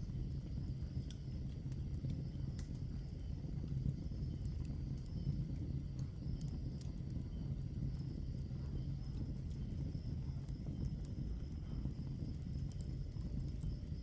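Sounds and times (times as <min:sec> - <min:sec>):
burning logs crackling and popping: 0:00.0 - 0:14.0
fireplace fire rumbling: 0:00.0 - 0:14.0.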